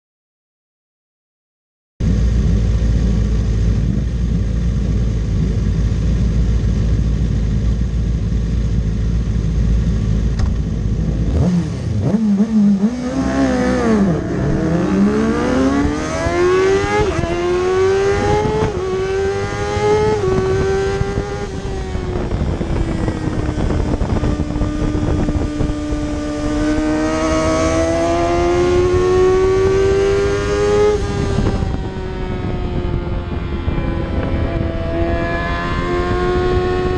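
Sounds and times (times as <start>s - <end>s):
motorcycle engine revving: 2.0s - 36.9s.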